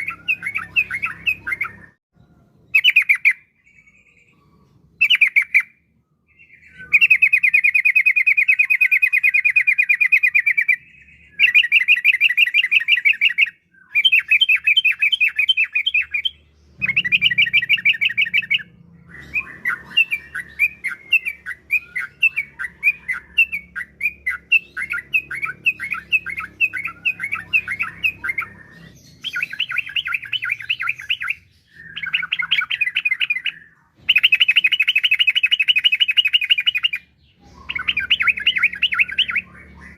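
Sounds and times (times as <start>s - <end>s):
bird singing rolling trills: 0.0s - 39.9s
bird chattering: 6.6s - 39.9s.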